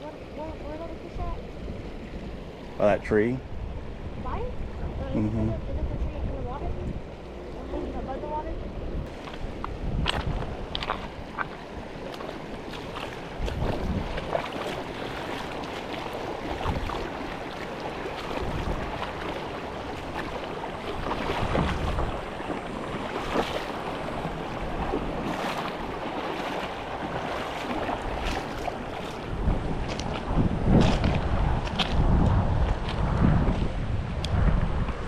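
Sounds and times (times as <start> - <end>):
moving water: 0.0 - 35.0
wind gusting on microphone: 0.0 - 35.0.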